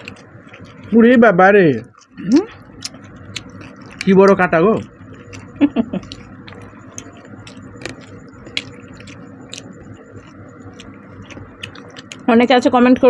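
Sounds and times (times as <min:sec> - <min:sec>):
chewing and smacking: 0:00.0 - 0:12.4.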